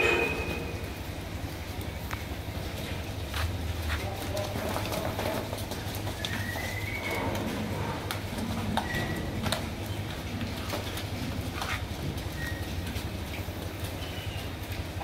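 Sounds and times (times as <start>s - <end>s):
cow hooves clopping on concrete: 0.0s - 15.0s.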